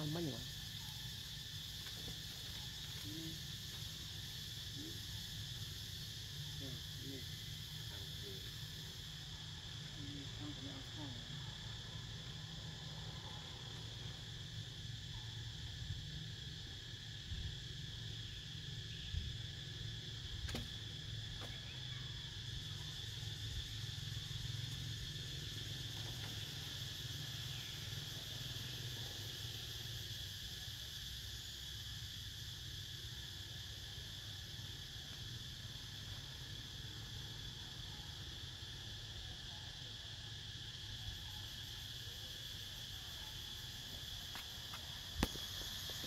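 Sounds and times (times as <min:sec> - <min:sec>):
insects droning: 0:00.0 - 0:46.0.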